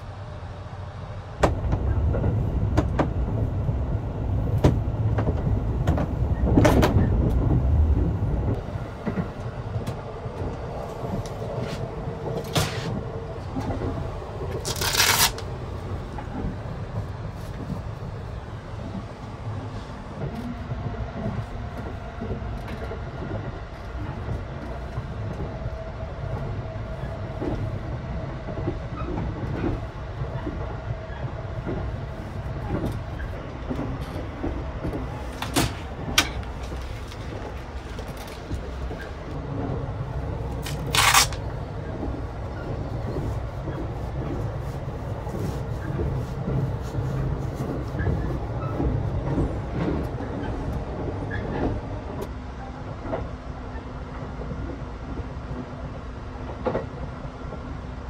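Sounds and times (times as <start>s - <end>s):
train rumble and rattle: 0.0s - 58.0s.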